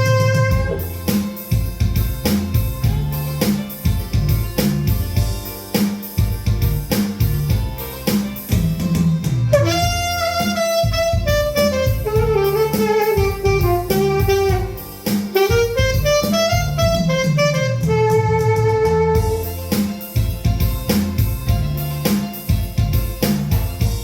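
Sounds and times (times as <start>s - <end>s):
pop backing track: 0.0s - 24.0s
saxophone melody: 0.0s - 24.0s.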